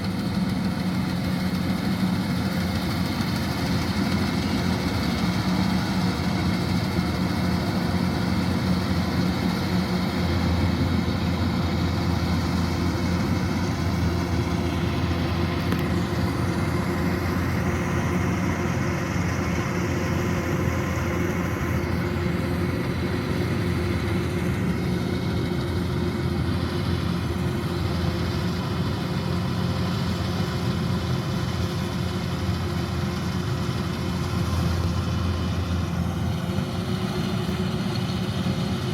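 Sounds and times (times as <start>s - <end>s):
combine harvester engine humming: 0.0s - 38.9s.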